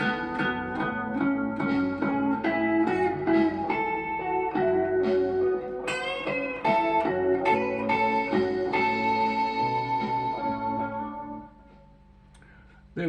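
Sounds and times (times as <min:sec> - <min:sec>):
bass line: 0:00.0 - 0:11.5
guitar picking a melody: 0:00.0 - 0:12.6.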